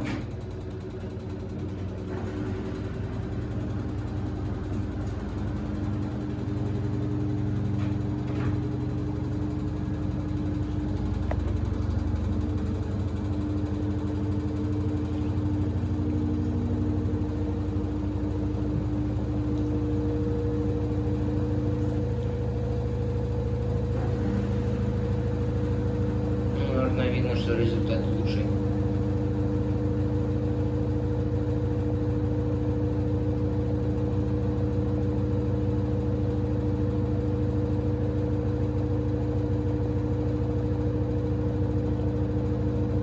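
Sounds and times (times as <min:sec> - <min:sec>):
washer motor humming with whine: 0:00.0 - 0:43.0.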